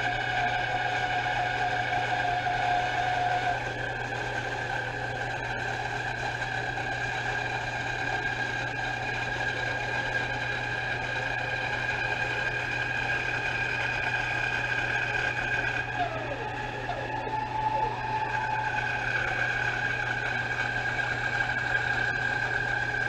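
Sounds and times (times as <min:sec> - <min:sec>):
band saw humming and whining: 0:00.0 - 0:23.0.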